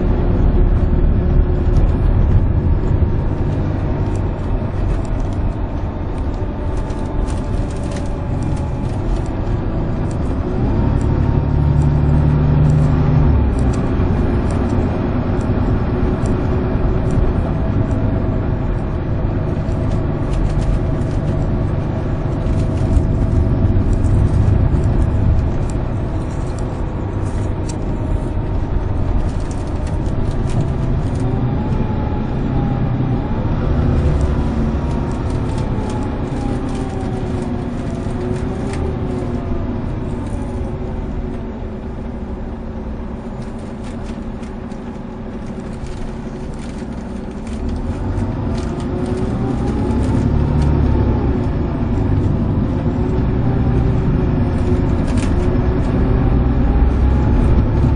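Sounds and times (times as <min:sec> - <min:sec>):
diesel coach engine accelerating: 0:00.0 - 0:57.9
low road rumble: 0:00.0 - 0:57.9.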